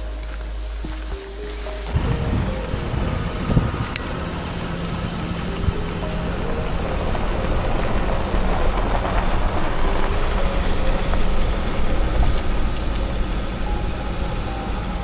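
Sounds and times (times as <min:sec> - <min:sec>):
vehicle road and engine rumble: 0:00.0 - 0:15.0.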